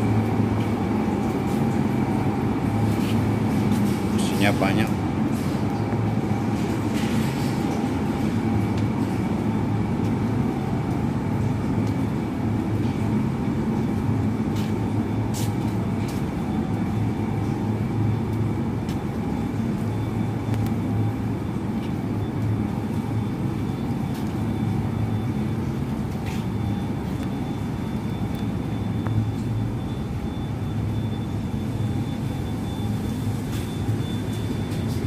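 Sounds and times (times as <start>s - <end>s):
constant motor whine: 0.0s - 35.0s.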